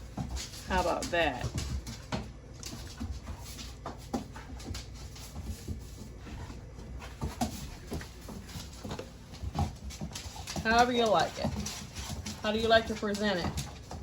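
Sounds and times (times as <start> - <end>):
household clicks and rustles: 0.0 - 14.0.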